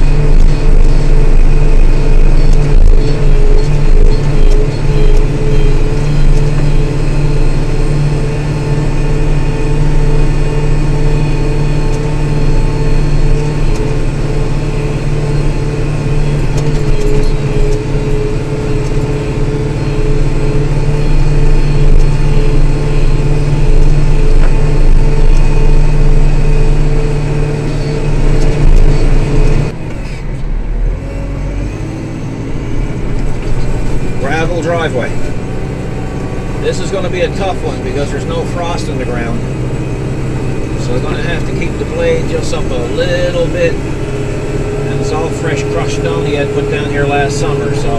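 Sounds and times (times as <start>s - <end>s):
steady whine: 0.0s - 47.9s
tractor diesel engine running: 0.0s - 47.9s.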